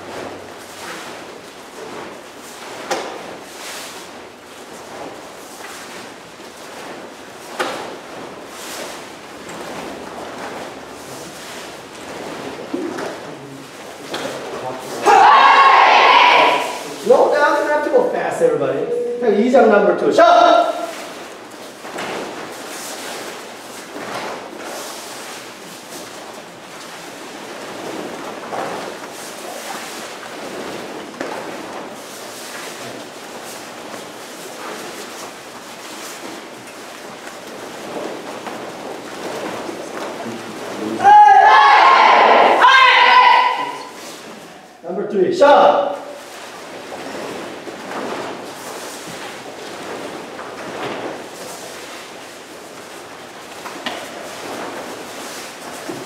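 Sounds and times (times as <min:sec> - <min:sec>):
uniforms swishing and snapping: 0:00.0 - 0:17.3, 0:20.7 - 0:44.6, 0:46.0 - 0:56.0
bare feet on foam mats: 0:00.0 - 0:17.7, 0:20.7 - 0:44.8, 0:45.7 - 0:56.0.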